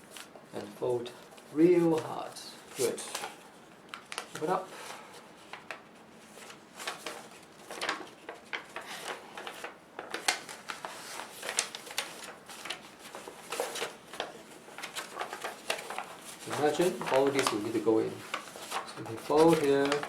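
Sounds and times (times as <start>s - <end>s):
paper rustling and crinkling: 0.0s - 20.0s.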